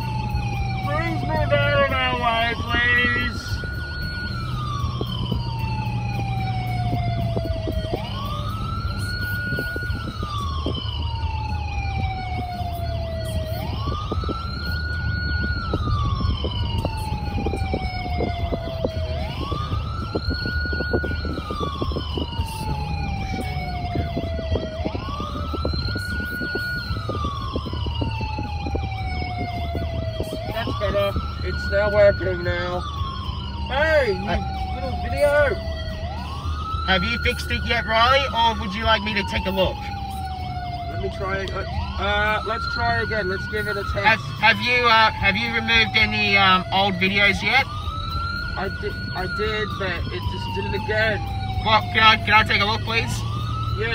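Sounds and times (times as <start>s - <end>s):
car road noise: 0.0s - 53.9s
electronic toy siren wailing: 0.0s - 53.9s.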